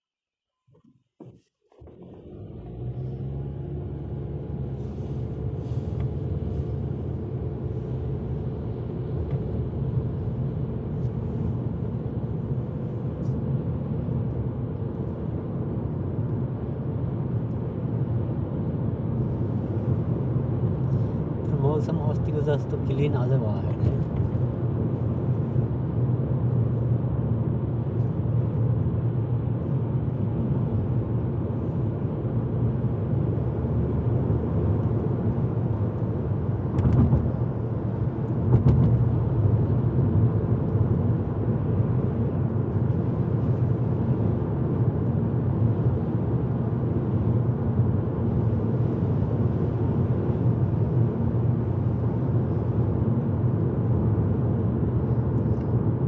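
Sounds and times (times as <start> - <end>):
engine and tyre rumble: 0.6 - 56.0.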